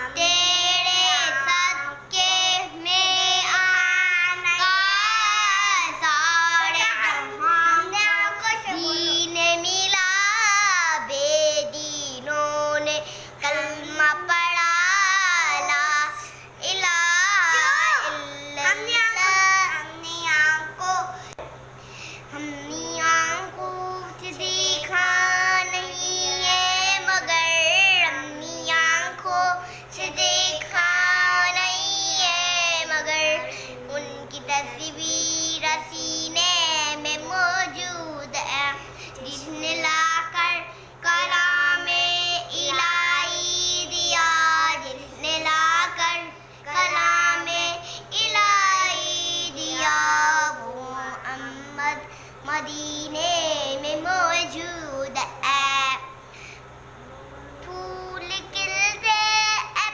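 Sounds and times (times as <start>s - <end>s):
child singing: 0.0s - 21.2s, 22.3s - 56.1s, 57.1s - 59.9s
steady low hum: 0.0s - 59.9s.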